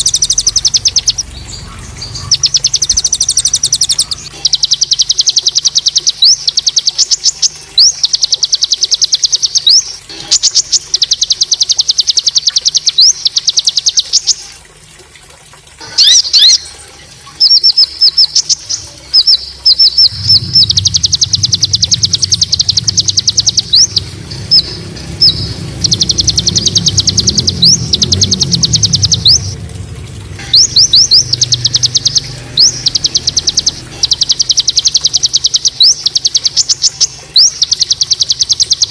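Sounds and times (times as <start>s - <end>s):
songbird rapid harsh trills: 0.0s - 14.4s, 17.4s - 29.6s, 30.4s - 38.9s.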